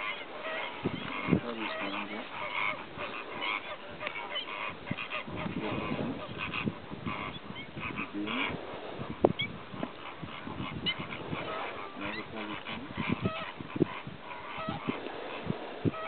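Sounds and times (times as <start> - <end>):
flamingos honking: 0.0 - 16.0.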